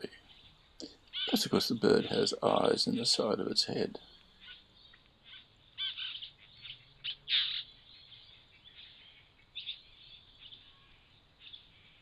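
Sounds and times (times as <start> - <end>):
birds chattering short calls: 0.1 - 12.0.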